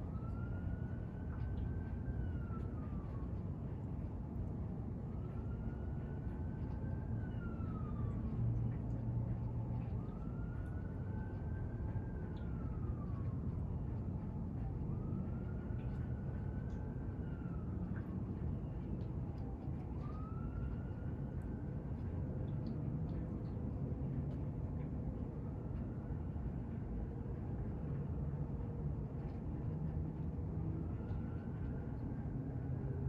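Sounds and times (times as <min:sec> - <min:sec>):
distant siren wailing: 0:00.0 - 0:33.0
low background noise: 0:00.0 - 0:33.0.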